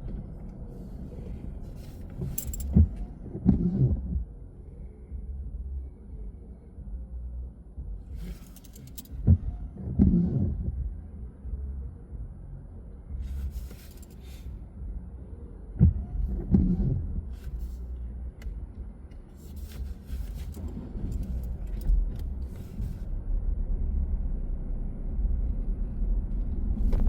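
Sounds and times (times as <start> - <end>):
car road rumble: 0.0 - 27.0.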